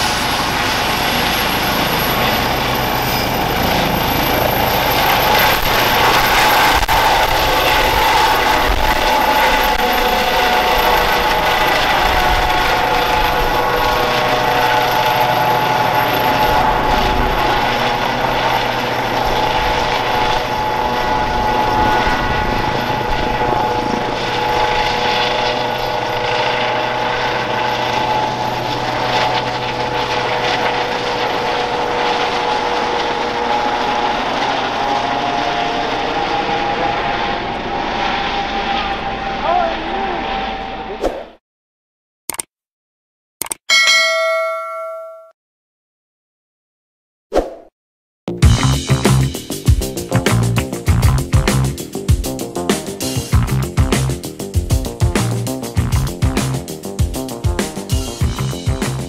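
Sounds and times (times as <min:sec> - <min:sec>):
helicopter engine whine: 0:00.0 - 0:40.9, 0:48.4 - 0:59.0
helicopter rotor noise: 0:00.0 - 0:40.9, 0:48.3 - 0:59.0.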